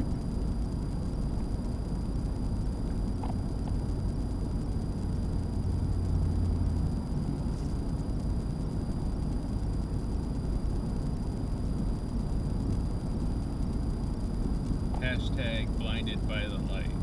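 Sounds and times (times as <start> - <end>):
road and engine drone: 0.0 - 17.0.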